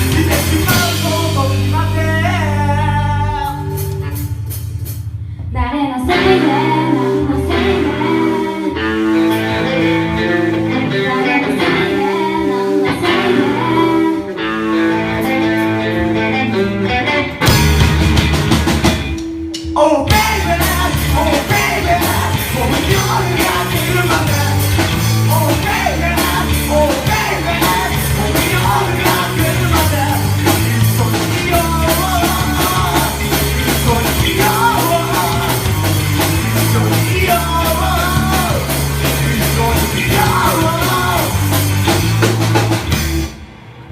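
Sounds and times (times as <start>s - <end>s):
person singing: 0.0s - 4.2s, 5.6s - 17.6s, 19.6s - 41.6s
drums and bass: 0.0s - 43.9s
guitar: 0.0s - 43.9s
rock band playing: 0.0s - 43.9s.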